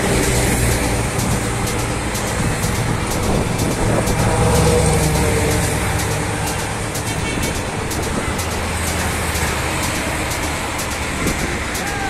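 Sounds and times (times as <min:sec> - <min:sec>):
tyre and road noise: 0:00.0 - 0:12.0
vehicle engines droning: 0:00.0 - 0:12.0.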